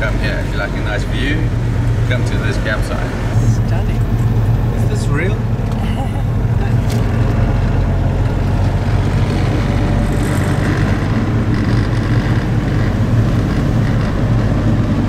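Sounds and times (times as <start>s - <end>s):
engine and road noise inside car: 0.0s - 15.0s.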